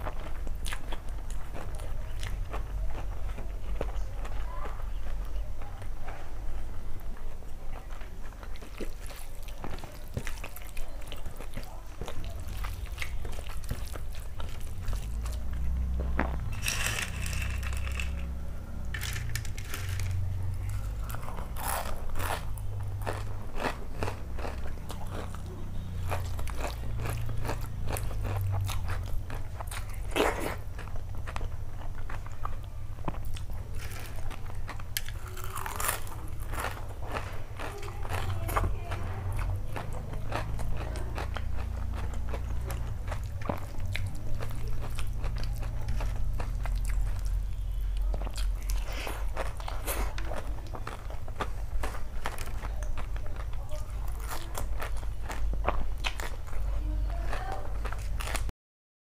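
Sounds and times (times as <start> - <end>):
chewing crisp potato sticks: 0.0 - 58.5.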